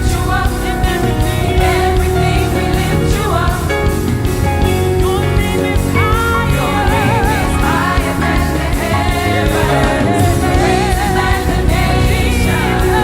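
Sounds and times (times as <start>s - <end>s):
band playing steady beat: 0.0s - 13.0s
person singing with vibrato: 0.0s - 13.0s.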